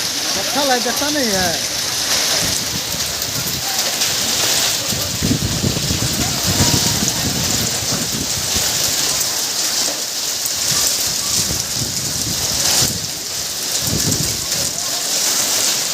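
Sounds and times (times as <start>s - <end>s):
hailstones pelting: 0.0s - 15.9s
heavy rain: 0.0s - 15.9s.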